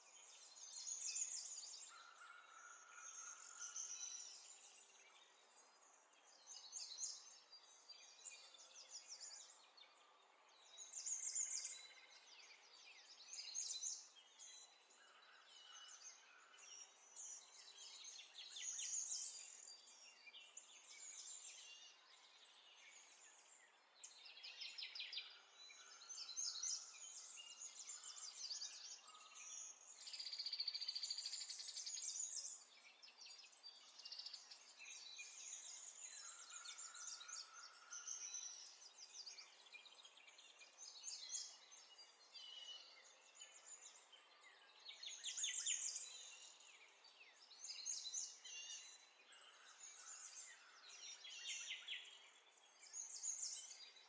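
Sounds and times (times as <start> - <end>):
faint birds chirping: 0.0 - 54.0.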